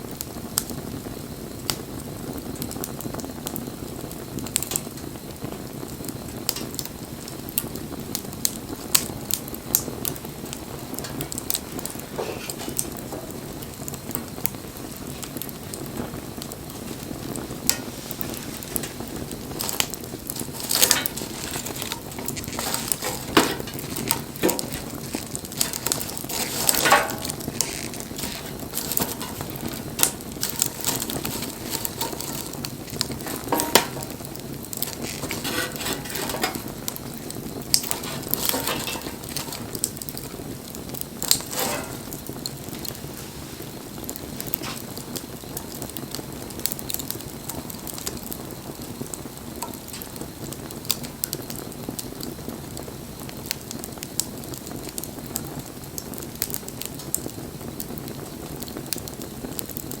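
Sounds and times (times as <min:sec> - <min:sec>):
campfire crackling and popping: 0:00.0 - 1:00.0
fire hissing: 0:00.0 - 1:00.0.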